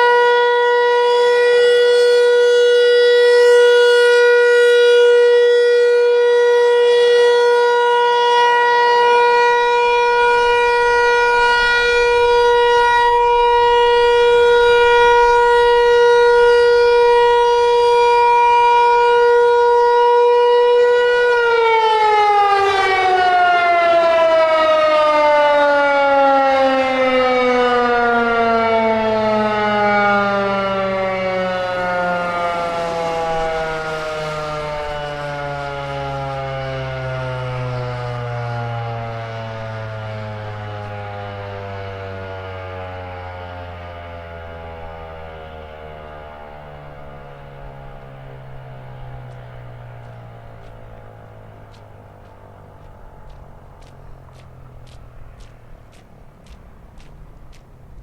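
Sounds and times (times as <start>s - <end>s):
siren winding down: 0.0s - 55.0s
warning siren steady tone: 0.0s - 57.0s.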